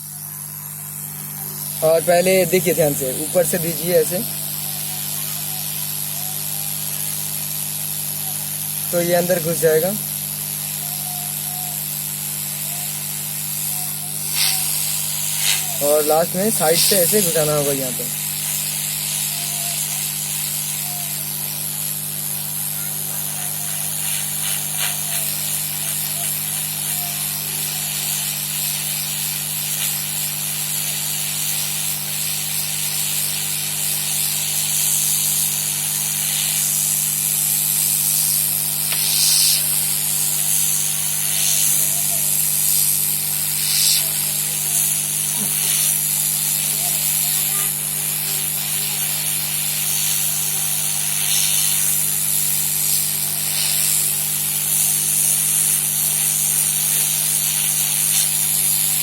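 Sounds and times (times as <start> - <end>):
hot air blower hissing: 0.0 - 59.0.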